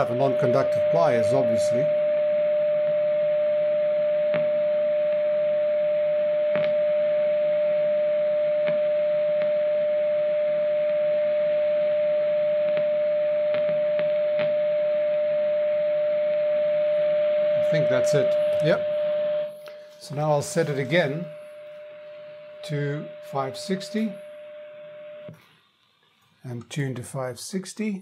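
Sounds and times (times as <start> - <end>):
radio test tone: 0.0 - 25.4.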